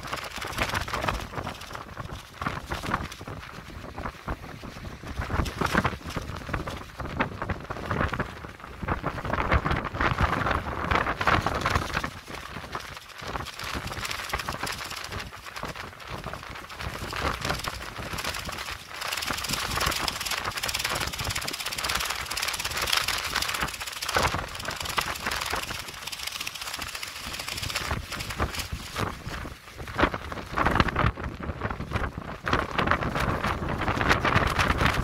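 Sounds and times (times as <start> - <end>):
gusty wind on microphone: 0.0 - 35.0
plastic sheeting flapping and crackling: 0.0 - 35.0.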